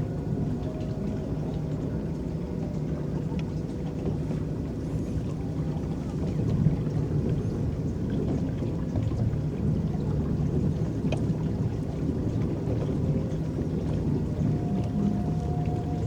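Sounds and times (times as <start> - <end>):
water lapping against boat: 0.0 - 16.0.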